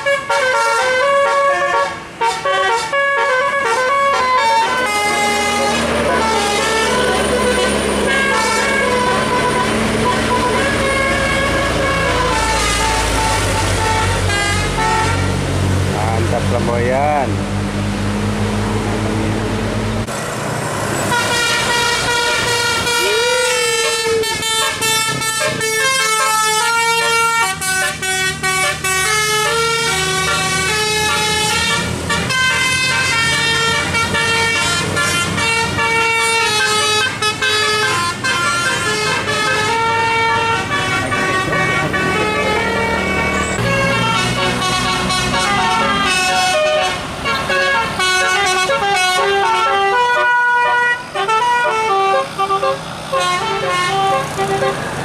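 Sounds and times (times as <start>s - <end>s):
musical bus air horn: 0.0s - 15.5s, 21.1s - 55.0s
bus engine drone: 0.0s - 55.0s.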